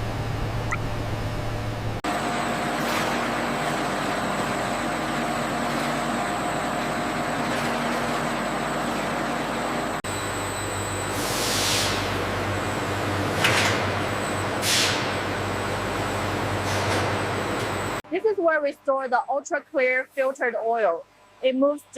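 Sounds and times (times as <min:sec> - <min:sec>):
factory machinery hiss and hum: 0:00.0 - 0:18.0.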